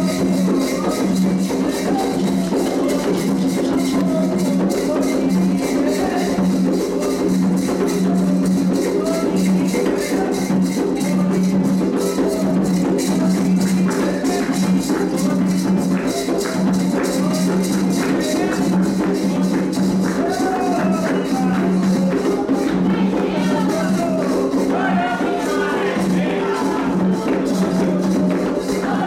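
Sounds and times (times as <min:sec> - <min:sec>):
hand drums: 0:00.0 - 0:29.0
people singing faintly: 0:00.0 - 0:29.0
rattling shaker: 0:00.0 - 0:29.0.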